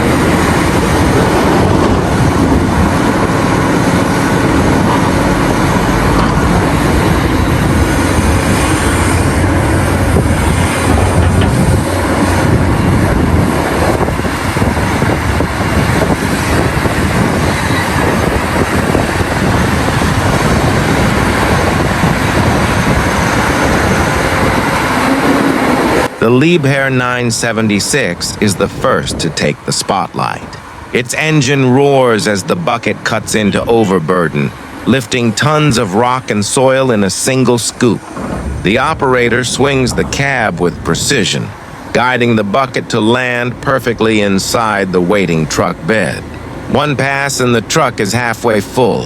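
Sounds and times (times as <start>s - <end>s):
heavy diesel machinery rumbling: 0.0s - 49.0s.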